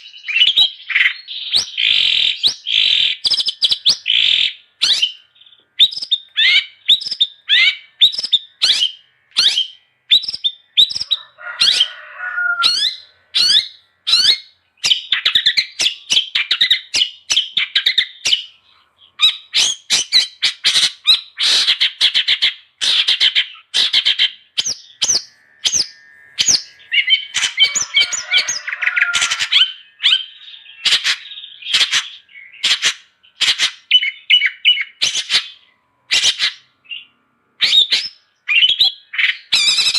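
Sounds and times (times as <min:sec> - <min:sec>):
bird singing chattering notes: 0:00.0 - 0:11.9, 0:12.7 - 0:39.9.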